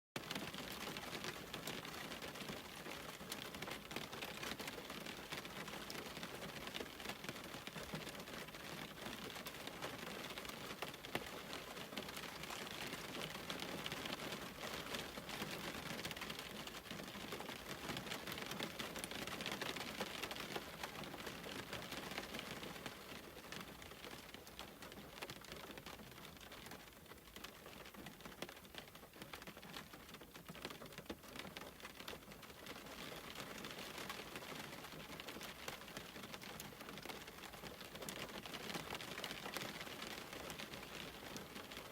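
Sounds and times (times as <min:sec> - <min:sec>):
steady rain falling: 0:00.2 - 0:41.9.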